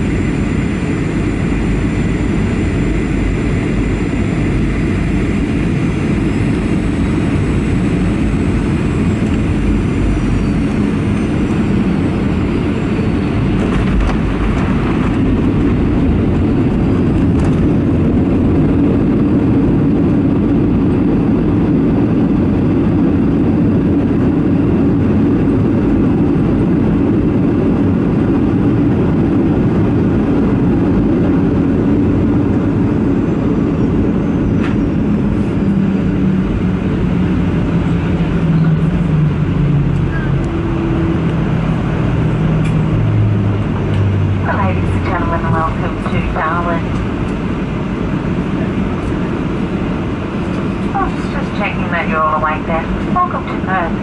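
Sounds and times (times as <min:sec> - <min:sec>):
airliner wheels rumbling on runway: 0:00.0 - 0:54.0
jet engines spooling down: 0:00.0 - 0:54.0.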